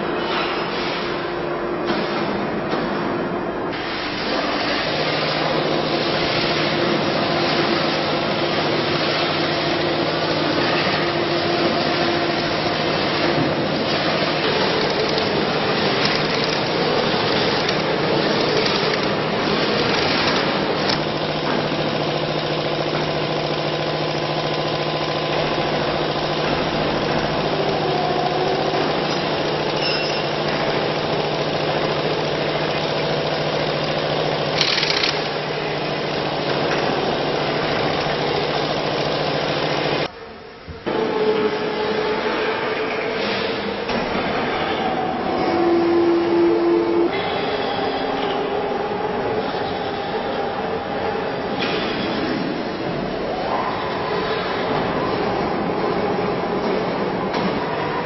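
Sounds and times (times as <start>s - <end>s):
constant machine hum: 0.0s - 58.0s
factory machinery din: 0.0s - 58.0s.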